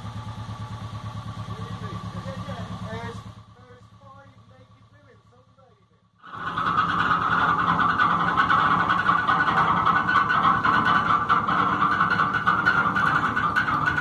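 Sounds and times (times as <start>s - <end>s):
boat diesel engine running: 0.0s - 14.0s.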